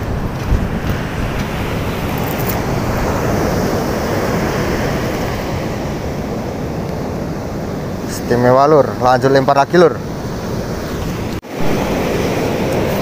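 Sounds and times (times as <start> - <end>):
waves breaking on beach: 0.0 - 13.0
wind on microphone: 0.0 - 13.0.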